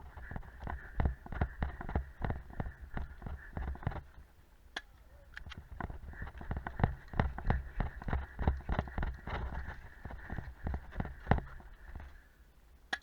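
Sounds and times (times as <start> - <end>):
running footsteps thudding: 0.0 - 4.2, 5.5 - 12.2.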